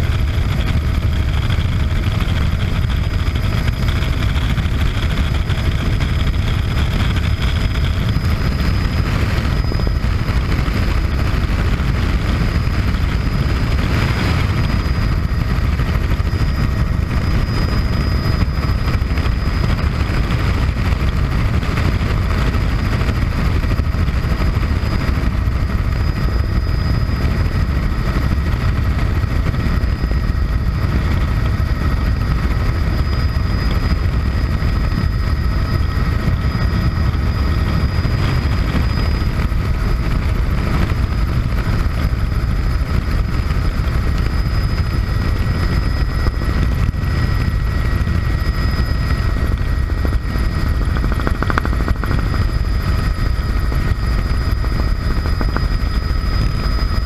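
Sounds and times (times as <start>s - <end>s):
helicopter rotor and engine rumble: 0.0s - 57.0s.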